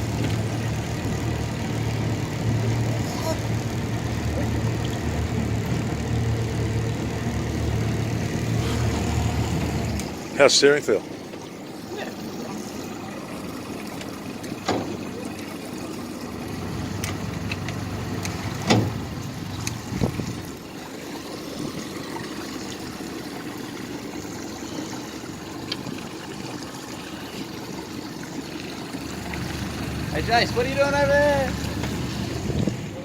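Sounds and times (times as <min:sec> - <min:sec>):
hull and water rumble: 0:00.0 - 0:33.0
outboard motors running: 0:00.0 - 0:33.0.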